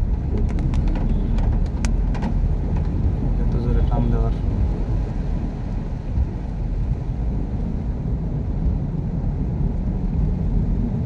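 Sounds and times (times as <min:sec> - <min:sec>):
heavy rain: 0:00.0 - 0:11.0
vehicle rumbling through floodwater: 0:00.0 - 0:11.0.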